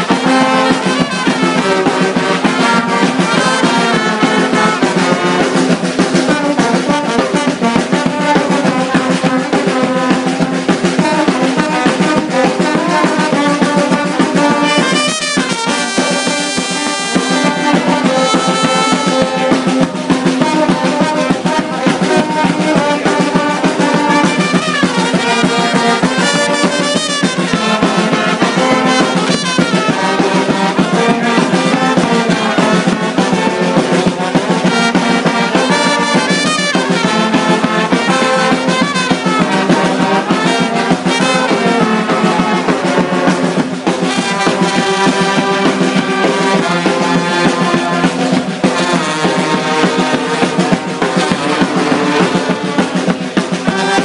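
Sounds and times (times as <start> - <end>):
brass band playing: 0.0 - 54.0
percussion: 0.0 - 54.0.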